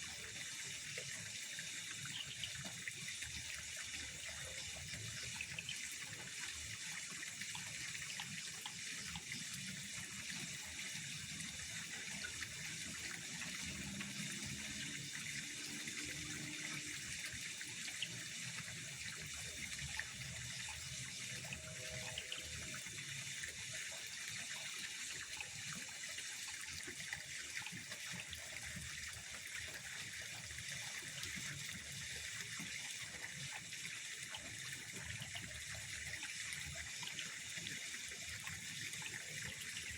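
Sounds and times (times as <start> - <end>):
pond water hiss: 0.0 - 39.9.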